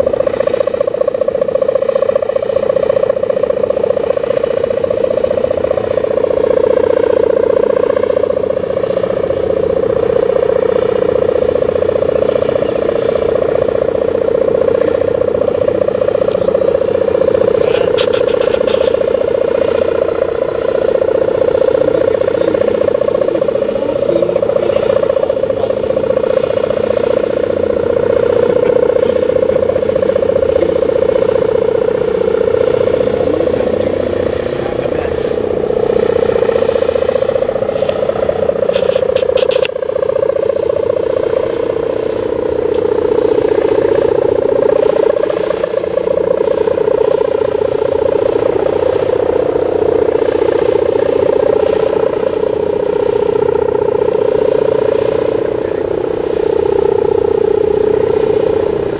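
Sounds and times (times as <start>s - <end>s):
kite hummer droning in wind: 0.0s - 58.9s.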